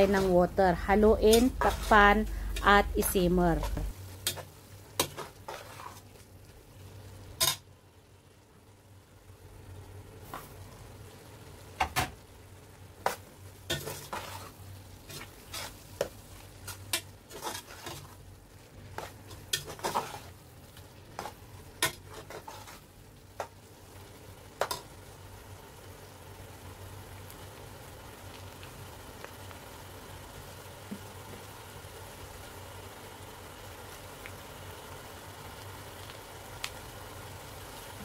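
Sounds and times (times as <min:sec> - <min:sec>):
meat sizzling in pot: 0:00.0 - 0:38.0.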